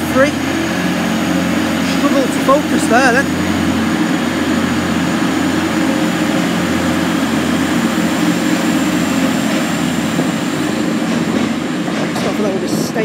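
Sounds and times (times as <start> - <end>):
diesel train engine drone: 0.0 - 13.0.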